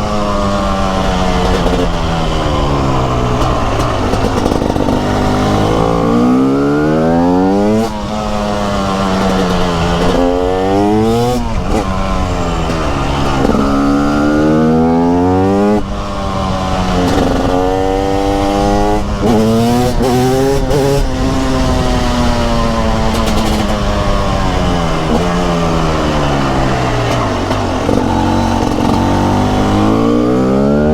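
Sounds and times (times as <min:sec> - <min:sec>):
two-stroke engine accelerating: 0:00.0 - 0:30.9.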